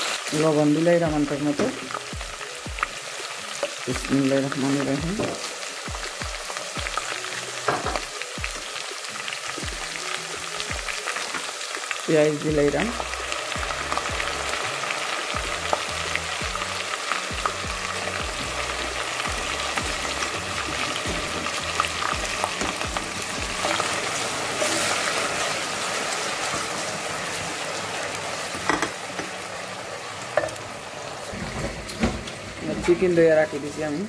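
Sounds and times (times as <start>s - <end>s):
onion sizzling in hot oil: 0.0s - 34.0s.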